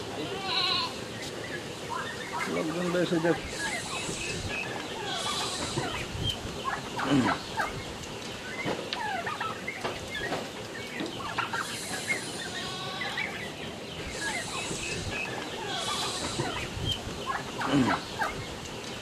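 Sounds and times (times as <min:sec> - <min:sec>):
poultry calling and gobbling: 0:00.0 - 0:19.0.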